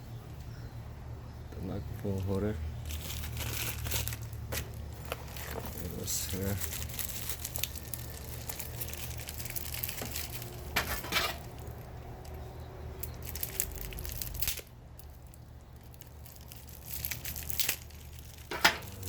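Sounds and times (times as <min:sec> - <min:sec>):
low steady hum: 0:00.0 - 0:19.0
packaging crinkling: 0:02.2 - 0:12.4, 0:13.0 - 0:19.0.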